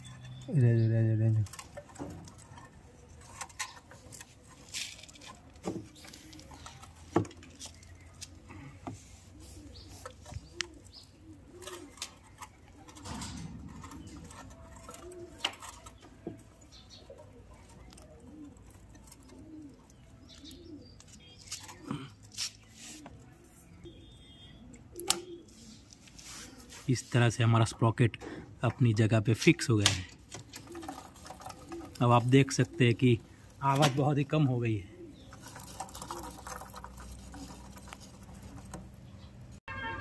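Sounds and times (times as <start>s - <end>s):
pigeon cooing: 1.4s - 26.9s, 30.3s - 39.4s.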